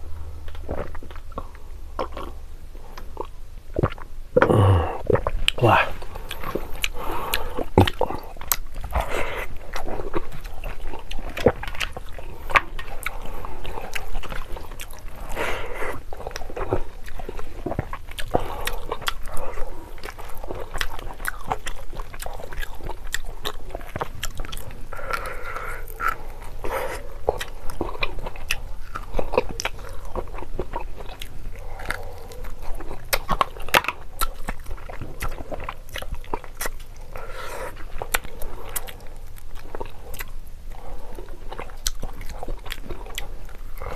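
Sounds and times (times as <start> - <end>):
wet chewing clicks and smacks: 3.0 - 43.9.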